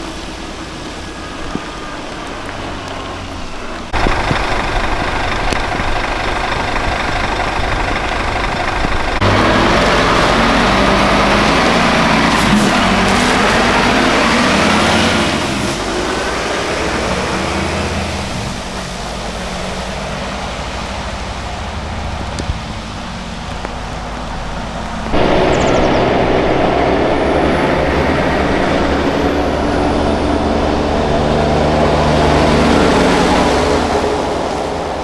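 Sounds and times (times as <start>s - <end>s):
truck diesel engine running: 0.0s - 35.0s.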